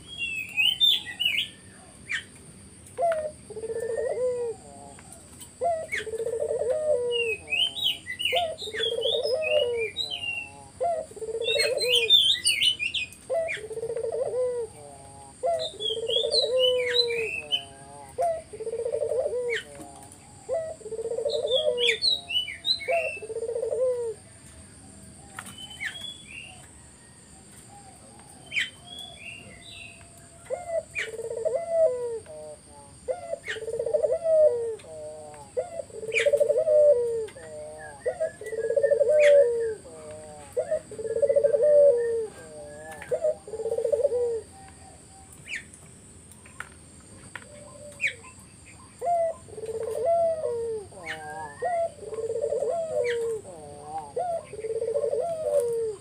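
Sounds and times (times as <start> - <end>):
small birds chirping: 0.0 - 56.0
dove cooing: 3.0 - 45.7, 47.2 - 56.0.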